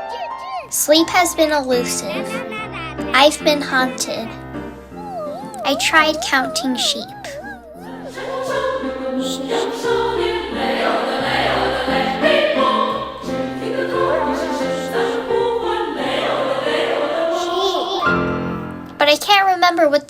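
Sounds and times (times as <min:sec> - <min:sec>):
choir singing: 0:01.1 - 0:18.5.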